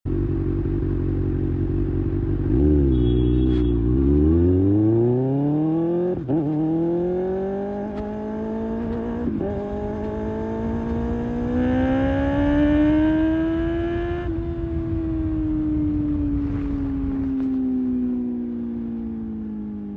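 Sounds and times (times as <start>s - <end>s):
motorcycle engine revving: 0.1s - 18.1s.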